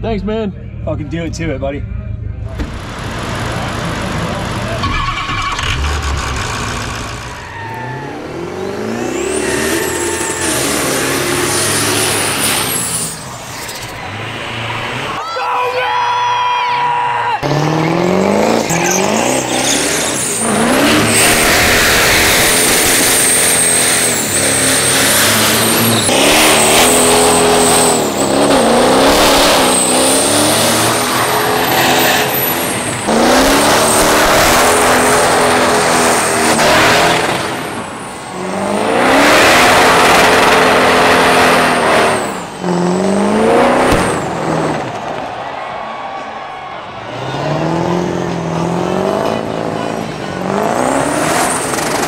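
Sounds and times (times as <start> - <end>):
engine revving hard: 2.5 - 15.2, 17.4 - 45.2, 47.1 - 52.0
tyres screeching: 2.6 - 44.8.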